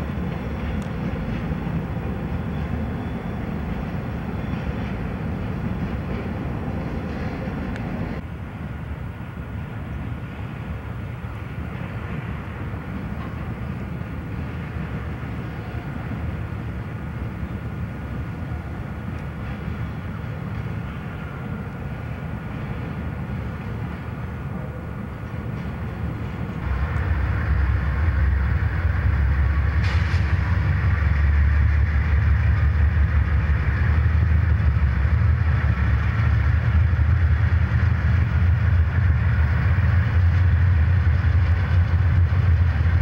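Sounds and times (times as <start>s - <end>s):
distant freight train rumble: 0.0s - 43.0s.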